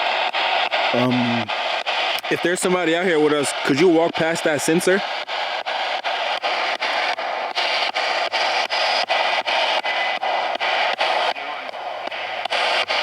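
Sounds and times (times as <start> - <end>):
radio static hissing: 0.0 - 13.0.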